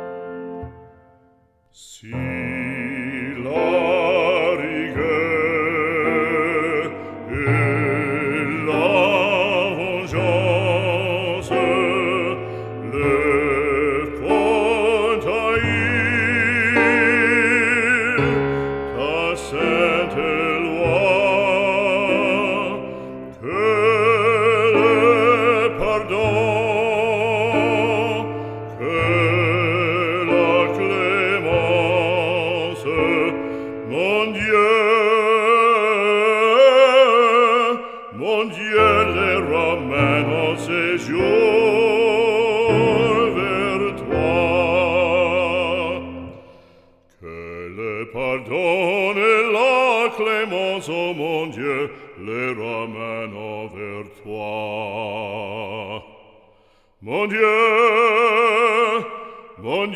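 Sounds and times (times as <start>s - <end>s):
operatic voice singing: 1.7s - 59.9s.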